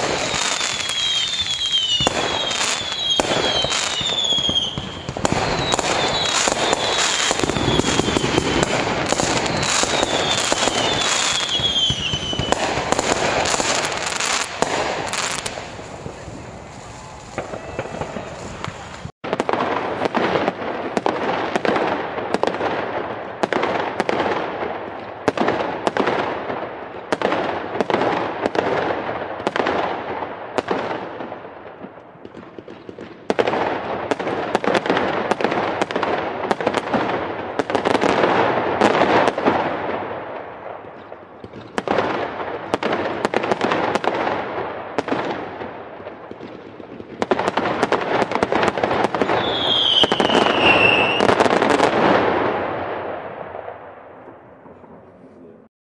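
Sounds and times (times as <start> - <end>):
fireworks crackling: 0.0 - 55.3
fireworks bangs: 0.0 - 55.6.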